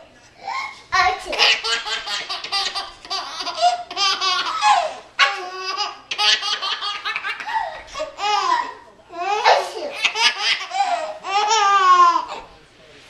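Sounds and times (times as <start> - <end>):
baby laughing: 0.4 - 12.5.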